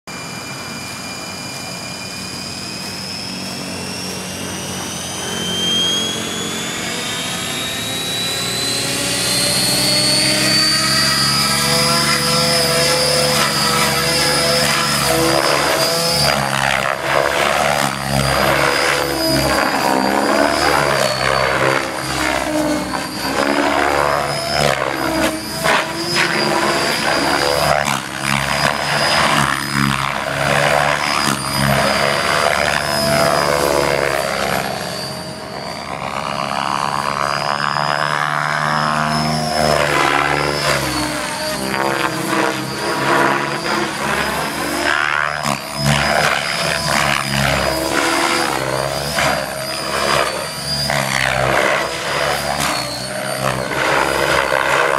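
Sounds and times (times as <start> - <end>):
electric motor whine: 0.1 - 54.9
rotor blade noise: 0.1 - 54.9.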